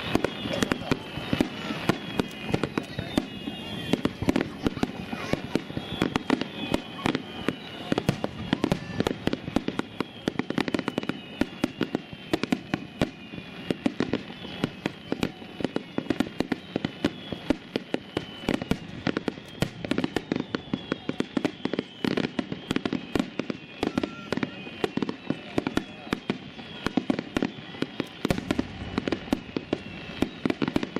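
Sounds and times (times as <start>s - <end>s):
faint high whistles: 0.0s - 30.9s.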